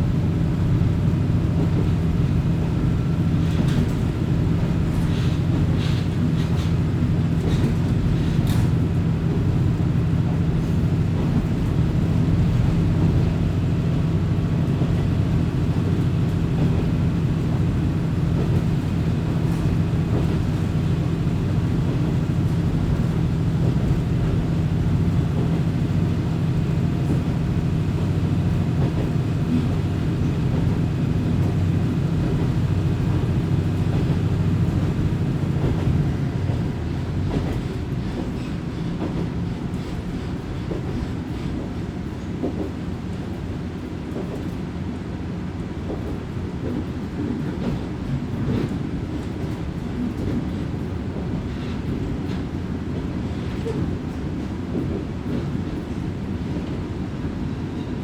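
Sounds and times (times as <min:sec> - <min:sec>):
railcar engine drone: 0:00.0 - 0:58.0.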